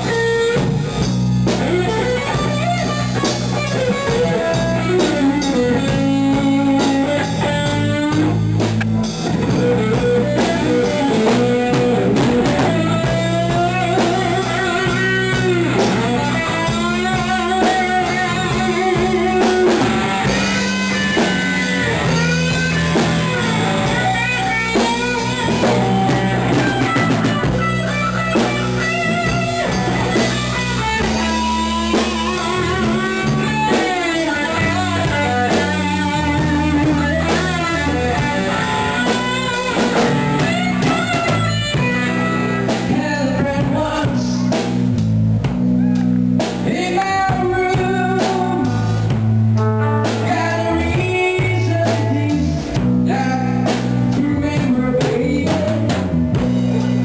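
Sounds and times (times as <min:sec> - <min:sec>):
bass guitar: 0:00.0 - 0:57.0
drum kit: 0:00.0 - 0:57.0
lead electric guitar bent notes: 0:00.0 - 0:57.0.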